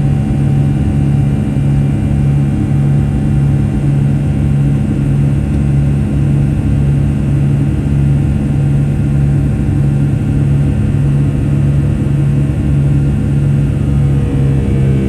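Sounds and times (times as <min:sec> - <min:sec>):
jet engines droning in cabin: 0:00.0 - 0:15.0
pulsing low hum: 0:00.0 - 0:15.0.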